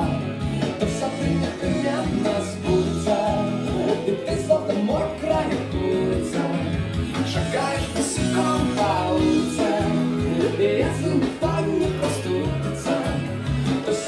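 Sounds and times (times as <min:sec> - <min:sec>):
upbeat pop song with singing: 0:00.0 - 0:14.0.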